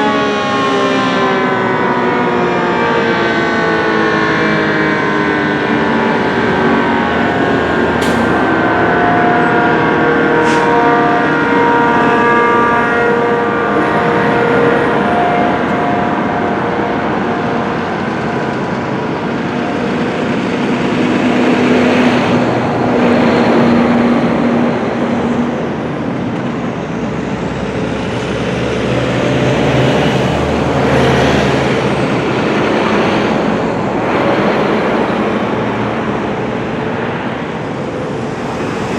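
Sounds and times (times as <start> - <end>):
road traffic: 0.0 - 38.9
two-tone warning siren winding down: 0.0 - 38.9.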